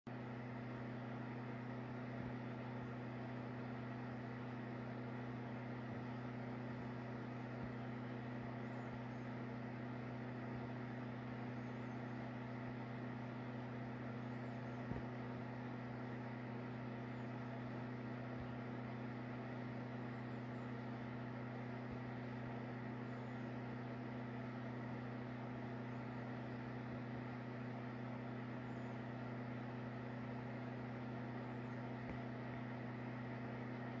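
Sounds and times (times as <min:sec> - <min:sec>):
low hum with faint hiss: 0:00.2 - 0:34.0.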